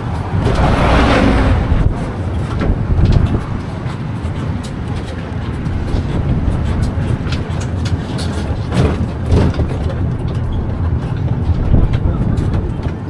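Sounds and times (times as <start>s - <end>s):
engine and tyres rumbling: 0.0s - 13.0s
carriage rattles and clicks: 1.7s - 13.0s.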